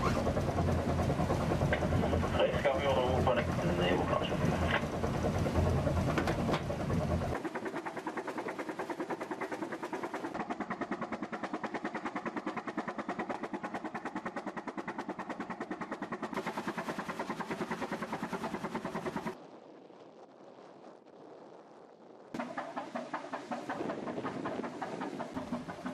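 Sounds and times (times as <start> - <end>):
marine engine running: 0.0 - 19.6, 22.4 - 25.9.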